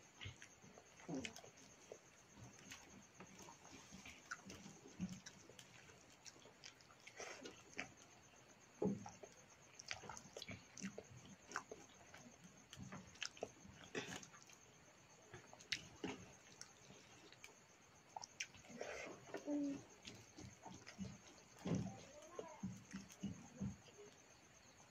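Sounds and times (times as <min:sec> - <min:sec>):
chewing: 0:00.0 - 0:24.8.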